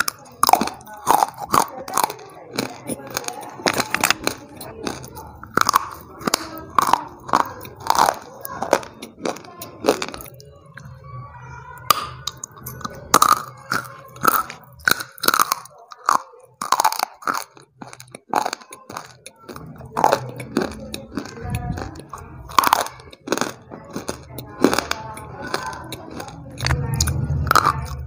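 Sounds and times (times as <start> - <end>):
crunching hard chunks: 0.0 - 10.4, 13.1 - 28.0.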